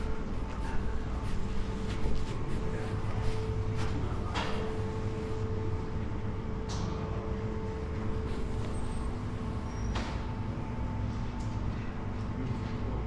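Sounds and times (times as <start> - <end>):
low rumble and hum of hall: 0.0 - 13.0.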